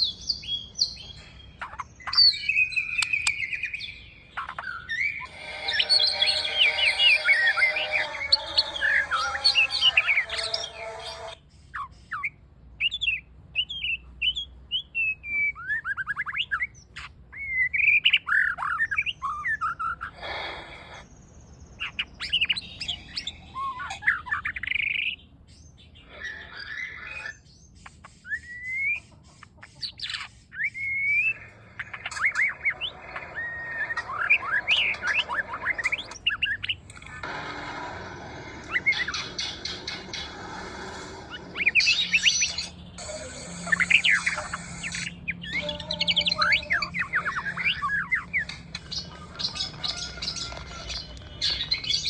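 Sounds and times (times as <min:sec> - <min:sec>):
bird singing: 0:00.0 - 0:20.1, 0:21.0 - 0:37.3, 0:38.5 - 0:40.6, 0:41.2 - 0:52.0.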